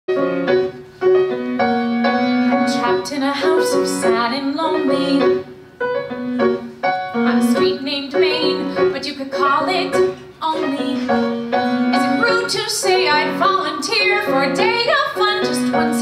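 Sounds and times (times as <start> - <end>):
grand piano playing chords: 0.1 - 16.0.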